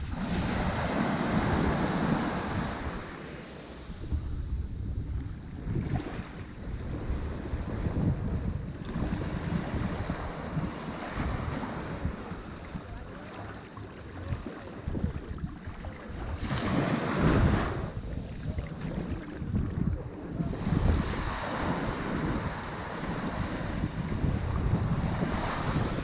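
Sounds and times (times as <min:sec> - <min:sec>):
ocean waves breaking on shore: 0:00.0 - 0:26.0
wind rumble on microphone: 0:00.0 - 0:26.0.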